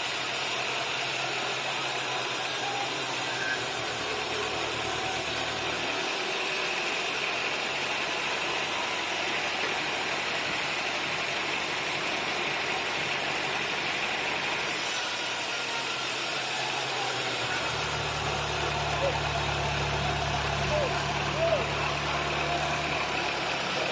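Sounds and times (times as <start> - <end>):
engine running steadily: 0.0 - 23.9.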